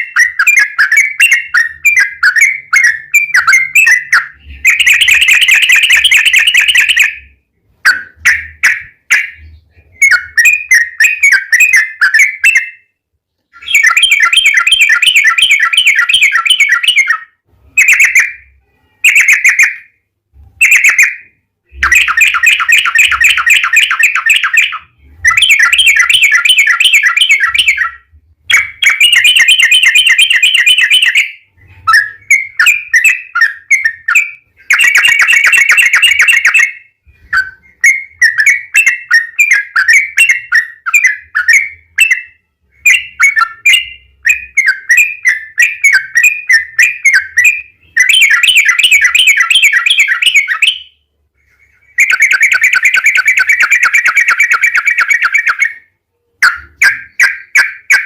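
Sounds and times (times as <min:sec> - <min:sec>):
bulbul singing trills: 0:00.0 - 0:19.9, 0:20.6 - 0:58.0.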